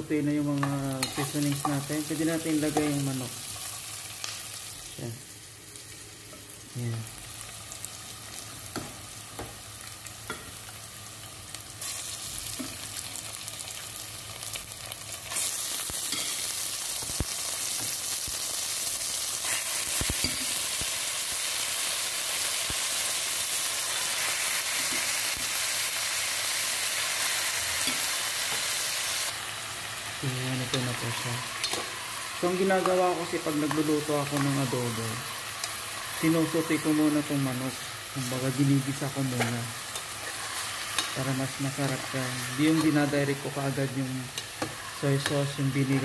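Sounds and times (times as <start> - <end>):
chicken sizzling in hot oil: 0.0 - 46.0.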